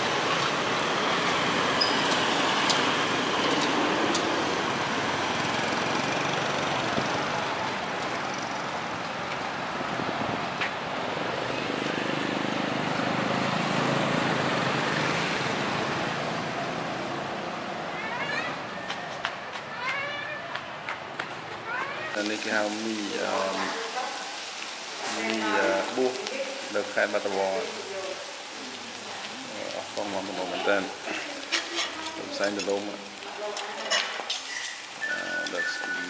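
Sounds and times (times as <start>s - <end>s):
road vehicles passing: 0.0s - 36.0s.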